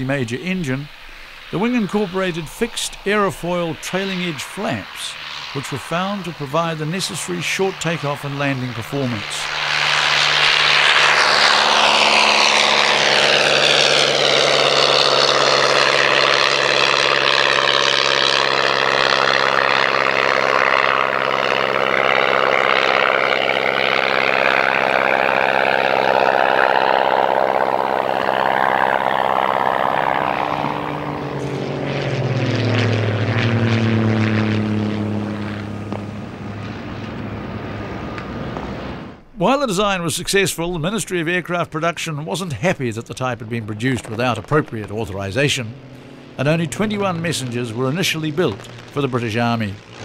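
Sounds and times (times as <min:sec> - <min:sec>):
light aircraft engine droning: 0:00.0 - 0:50.0.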